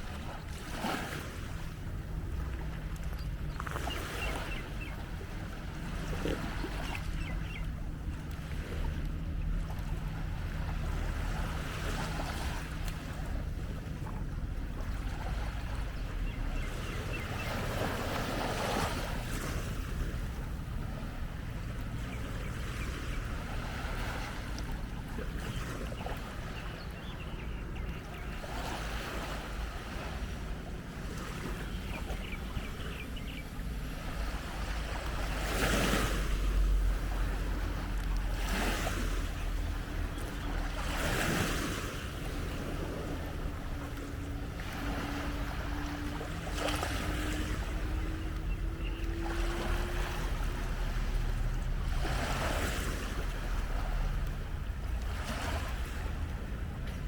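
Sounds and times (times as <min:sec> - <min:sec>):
small waves washing onto sand: 0:00.0 - 0:57.0
wind rumbling on microphone: 0:00.0 - 0:57.0.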